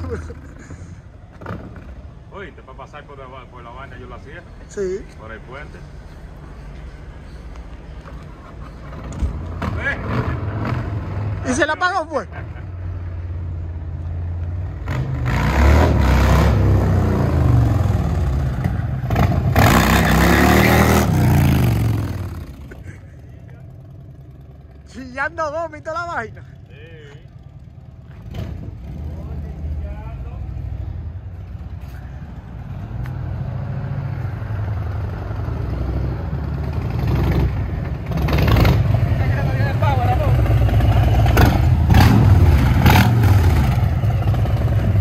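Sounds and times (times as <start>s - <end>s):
motorcycle engine rumbling: 0.0s - 11.6s, 16.5s - 45.0s.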